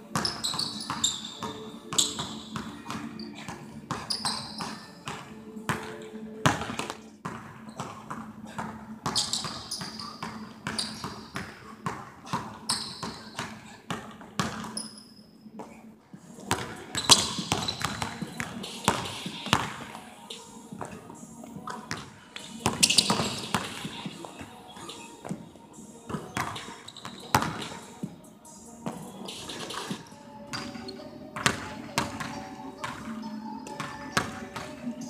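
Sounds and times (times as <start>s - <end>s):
sneaker squeaks: 0.1s - 6.9s, 7.6s - 11.6s, 12.3s - 15.8s, 16.4s - 21.0s, 21.6s - 28.1s, 28.8s - 35.0s.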